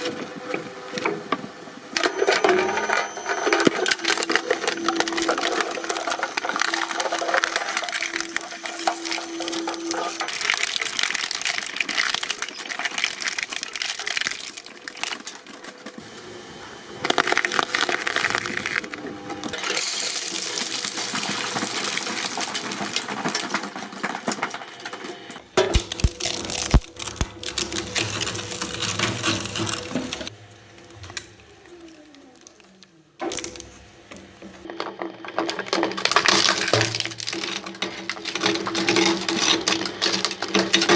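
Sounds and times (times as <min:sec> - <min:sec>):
shredding machines grinding material: 0:00.0 - 0:40.9.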